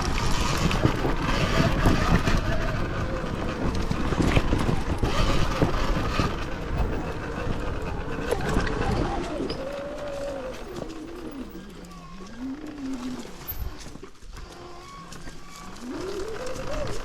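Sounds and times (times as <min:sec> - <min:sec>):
bike clattering and rattling: 0:00.0 - 0:17.0
electric motor whine: 0:00.0 - 0:17.0.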